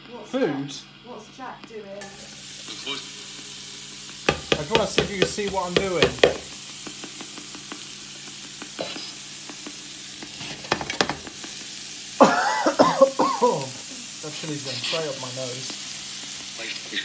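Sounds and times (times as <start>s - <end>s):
vegetables sizzling in a frying pan: 1.4s - 17.0s.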